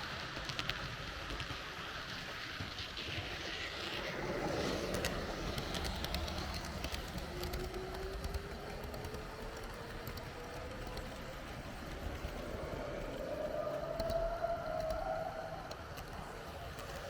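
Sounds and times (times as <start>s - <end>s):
model train rumbling on track: 0.0s - 17.0s
wheels clicking over rails: 0.0s - 17.0s.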